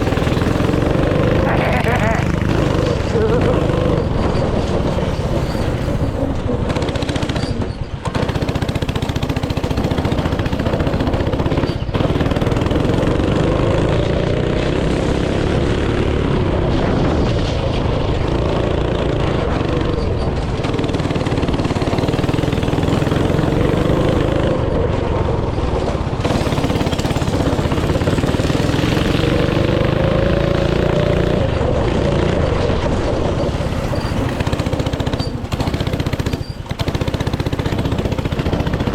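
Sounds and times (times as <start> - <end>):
small engine revving: 0.0 - 24.9, 26.2 - 38.9.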